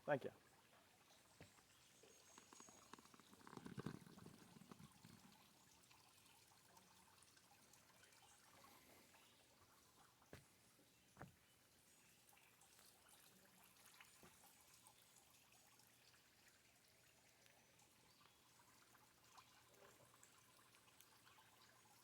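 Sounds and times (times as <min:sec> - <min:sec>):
faint trickling water: 0:00.0 - 0:22.0.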